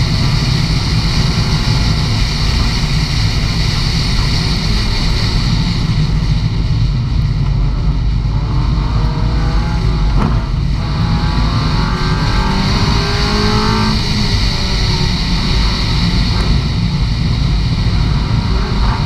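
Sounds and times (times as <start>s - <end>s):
car engine revving hard: 0.0s - 6.6s, 7.6s - 19.0s
loud road noise: 0.0s - 19.0s.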